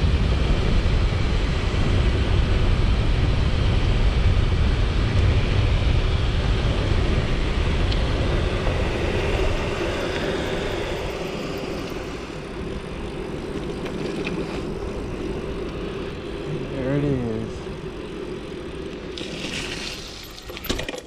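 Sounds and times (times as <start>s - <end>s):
wind rushing over microphone: 0.0s - 20.5s
bike tyres rolling: 0.0s - 21.0s.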